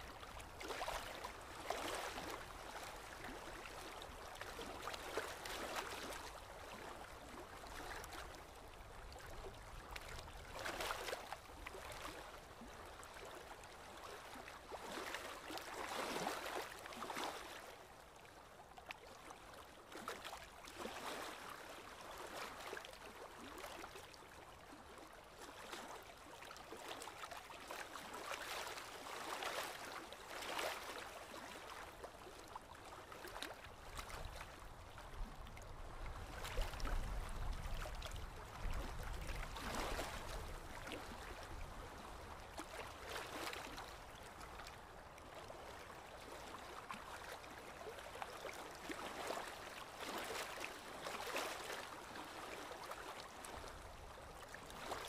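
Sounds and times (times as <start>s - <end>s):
waves lapping against boat hull: 0.0s - 55.0s.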